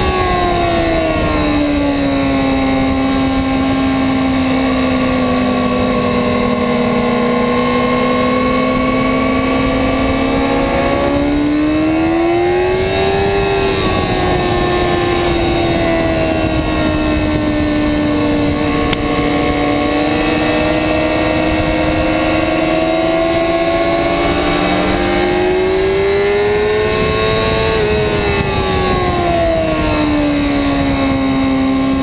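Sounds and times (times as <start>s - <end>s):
motorcycle engine revving: 0.0s - 32.0s
wind rush: 0.0s - 32.0s.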